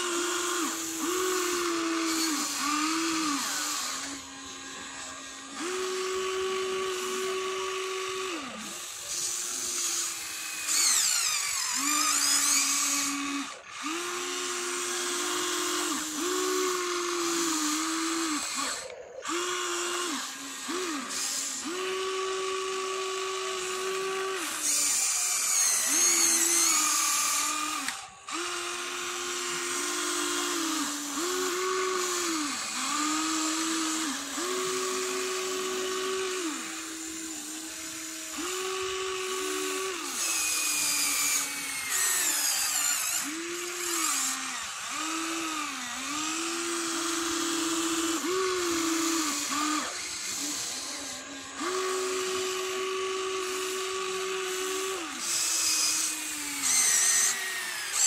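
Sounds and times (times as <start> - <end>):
toy excavator motors whining: 0.0 - 58.0.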